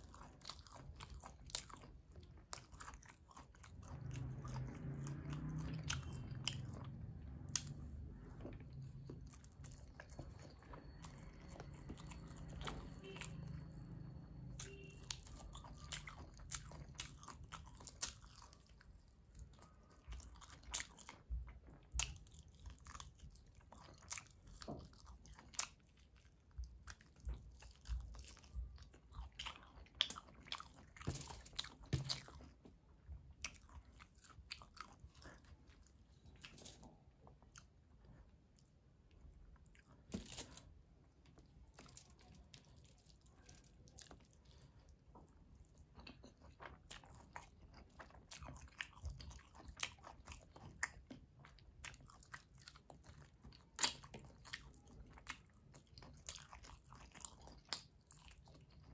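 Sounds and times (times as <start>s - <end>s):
chewing and biting food: 0.0s - 58.9s.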